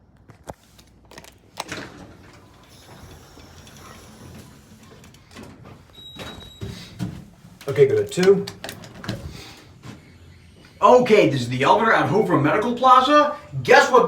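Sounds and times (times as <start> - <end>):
elevator doors sliding: 1.7 - 13.2.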